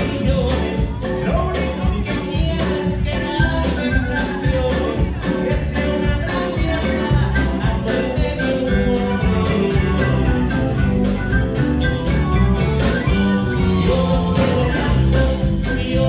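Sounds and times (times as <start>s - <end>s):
live band playing dance music: 0.0s - 16.0s.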